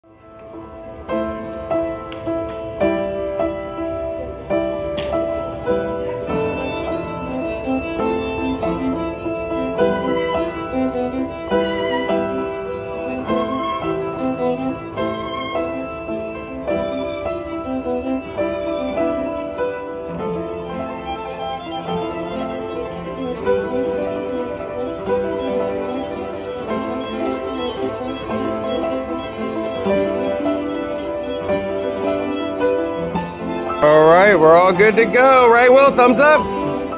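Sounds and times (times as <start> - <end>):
violin instrumental music: 0.0 - 36.9.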